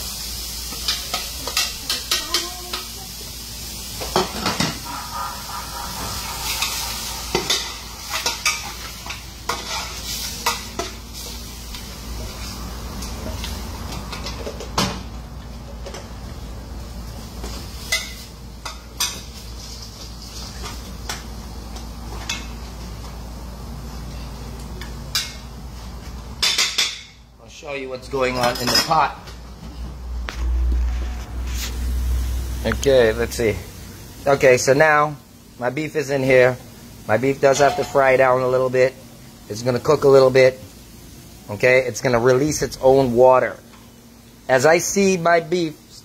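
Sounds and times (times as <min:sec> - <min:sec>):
beef sizzling in a pot: 0:00.0 - 0:27.3, 0:30.4 - 0:46.0.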